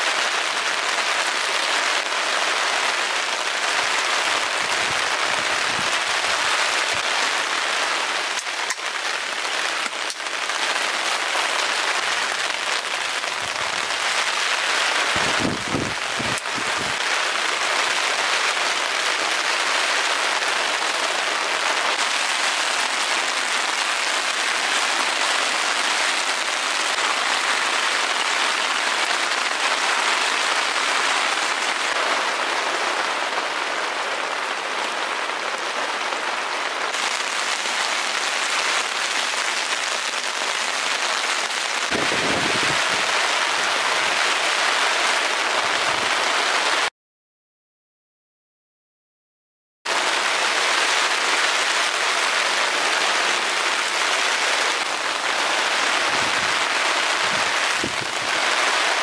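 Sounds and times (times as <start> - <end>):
heavy rain on tent fabric: 0.0 - 46.9, 49.8 - 59.0.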